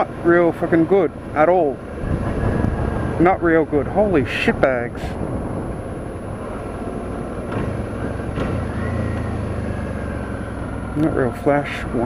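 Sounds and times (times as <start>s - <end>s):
motorcycle engine hum: 0.0s - 12.0s
road and wind noise: 0.0s - 12.0s.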